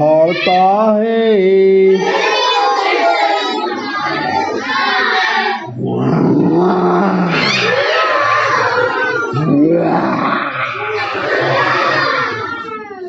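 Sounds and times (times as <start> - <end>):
children shouting lion roars: 0.0 - 13.0.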